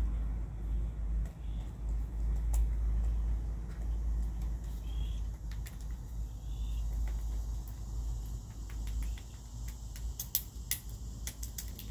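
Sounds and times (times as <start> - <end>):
low steady rumble: 0.0 - 11.9
bills tapping on concrete: 1.1 - 11.9.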